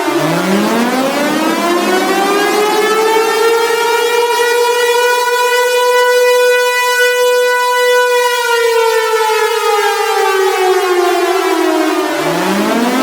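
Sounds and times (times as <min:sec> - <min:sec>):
civil defense siren wailing: 0:00.0 - 0:13.0.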